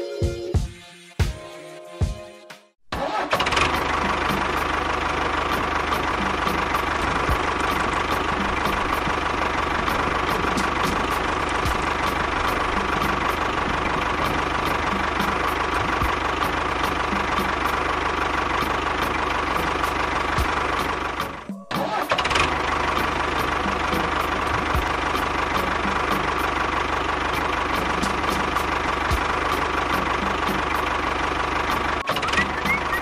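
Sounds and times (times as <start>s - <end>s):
tractor engine running: 2.9s - 33.0s.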